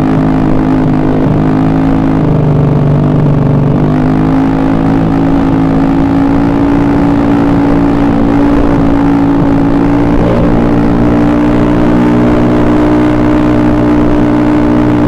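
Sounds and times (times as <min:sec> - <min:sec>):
scooter engine running: 0:00.0 - 0:15.0.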